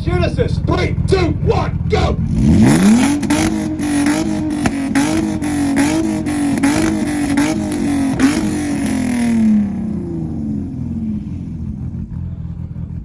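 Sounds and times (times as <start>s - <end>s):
engine revving at limiter: 0.7s - 13.0s.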